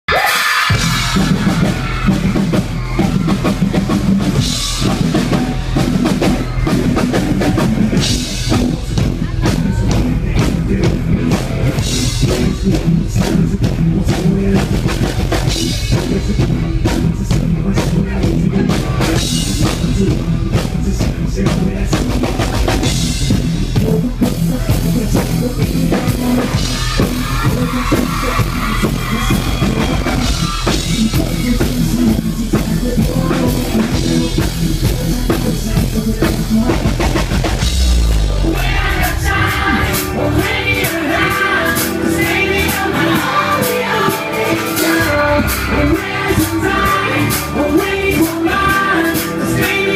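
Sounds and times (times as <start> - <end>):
drum kit beating: 0.1 - 49.9
live rock band playing: 0.1 - 49.9.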